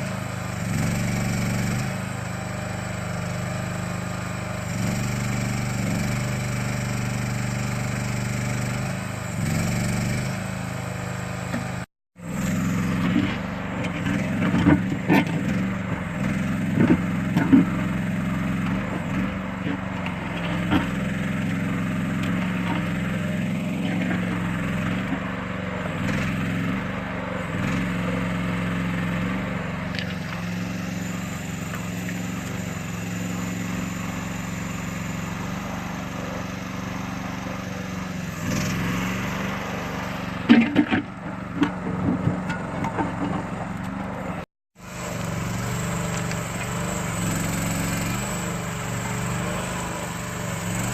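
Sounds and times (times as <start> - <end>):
small engine running: 0.0 - 50.9.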